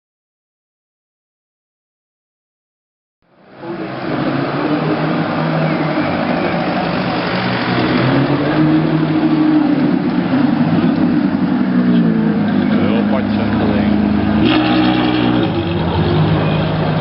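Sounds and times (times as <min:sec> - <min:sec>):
car engine running: 0:03.3 - 0:17.0.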